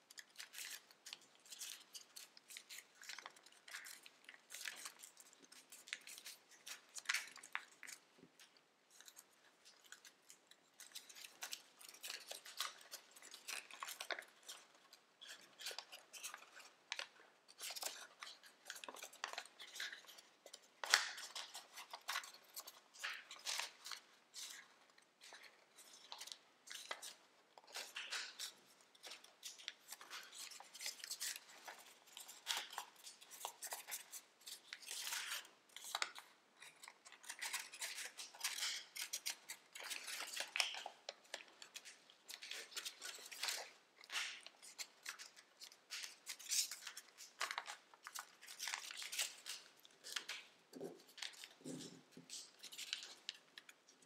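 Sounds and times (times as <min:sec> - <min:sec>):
foil paper crinkling: 0:00.1 - 0:53.8.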